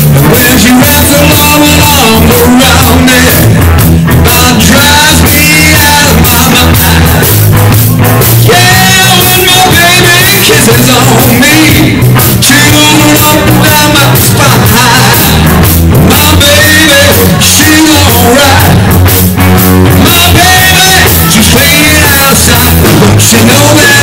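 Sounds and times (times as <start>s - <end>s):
man singing: 0.0s - 7.5s, 8.3s - 19.1s, 19.8s - 24.0s
drum kit: 0.0s - 24.0s
electric bass: 0.0s - 24.0s
electric guitar: 0.0s - 24.0s.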